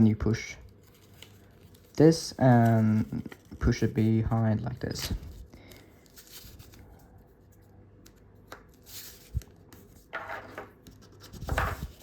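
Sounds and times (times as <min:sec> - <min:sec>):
paper rustling and creasing: 0:00.0 - 0:12.0.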